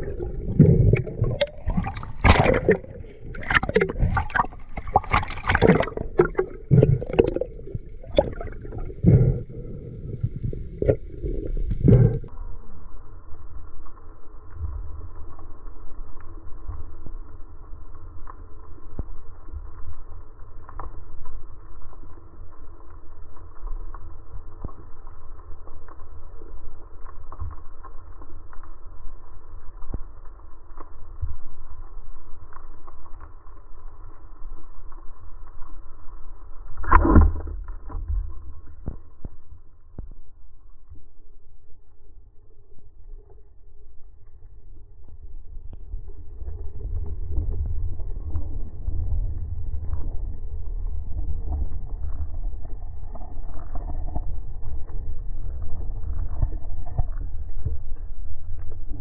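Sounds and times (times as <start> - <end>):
underwater rumble of moving water: 0.0 - 59.0.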